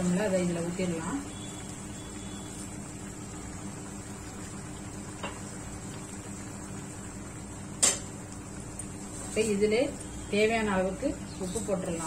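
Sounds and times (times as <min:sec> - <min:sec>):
gravy simmering in pan: 0:00.0 - 0:12.0.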